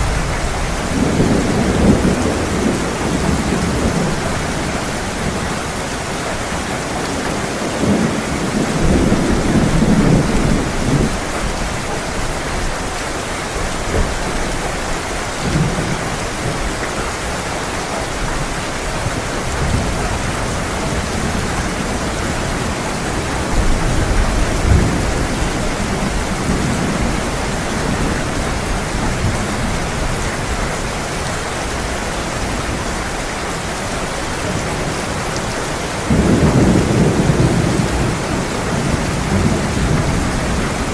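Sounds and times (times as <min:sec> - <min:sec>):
thunder rumbling: 0:00.0 - 0:12.8, 0:18.3 - 0:33.3, 0:34.2 - 0:40.9
heavy rain falling: 0:00.0 - 0:40.9.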